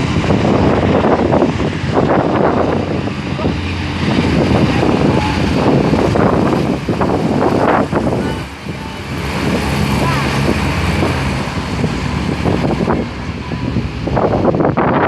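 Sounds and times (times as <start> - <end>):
hovercraft engines droning: 0.0 - 15.0
wind buffeting microphone: 0.0 - 15.0.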